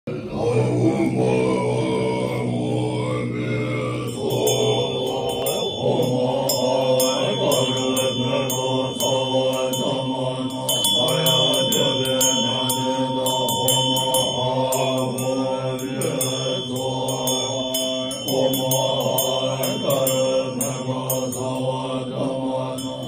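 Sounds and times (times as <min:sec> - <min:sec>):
monks chanting in low voices: 0:00.0 - 0:23.0
rapid high clinking: 0:04.0 - 0:23.0.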